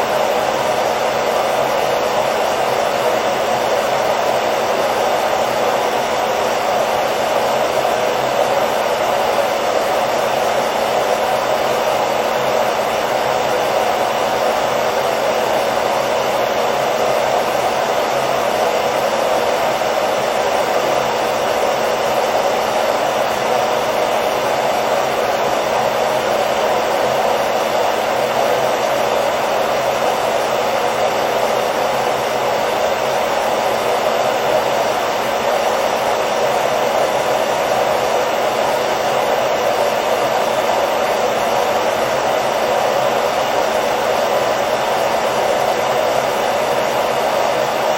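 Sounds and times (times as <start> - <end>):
hair dryer blowing: 0.0 - 47.9.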